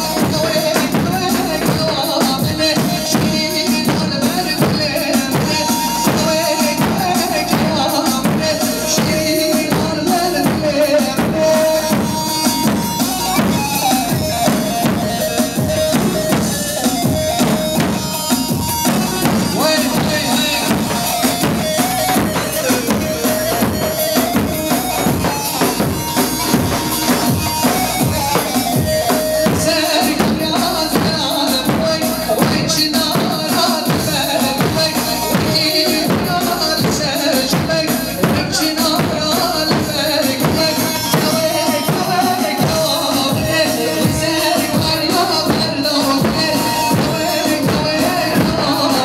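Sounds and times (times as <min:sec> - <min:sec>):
bass drum dance rhythm: 0:00.0 - 0:49.0
ornamented melody line: 0:00.0 - 0:49.0.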